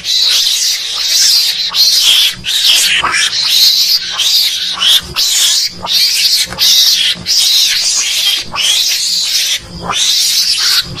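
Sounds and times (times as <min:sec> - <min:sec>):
mongoose screeching: 0:00.0 - 0:11.0.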